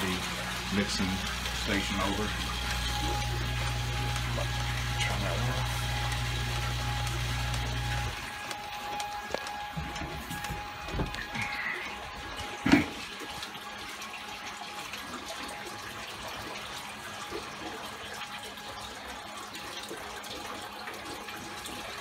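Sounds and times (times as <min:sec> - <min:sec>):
water running and splashing: 0:00.0 - 0:22.0.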